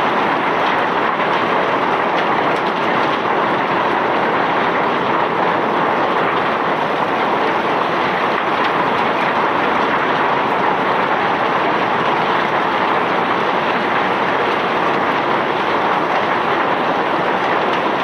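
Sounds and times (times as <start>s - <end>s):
conveyor rattling with moving rock: 0.0s - 18.0s.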